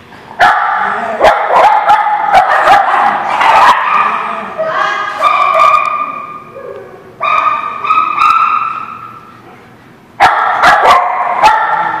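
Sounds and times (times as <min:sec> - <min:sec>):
small dogs barking and yipping: 0:00.4 - 0:09.1, 0:10.2 - 0:12.0.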